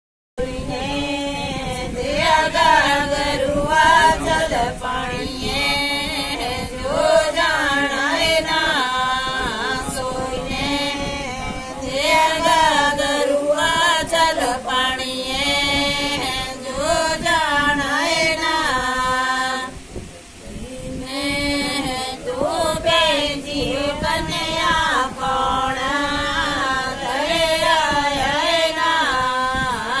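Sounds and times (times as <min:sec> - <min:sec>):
women singing together: 0:00.4 - 0:30.0.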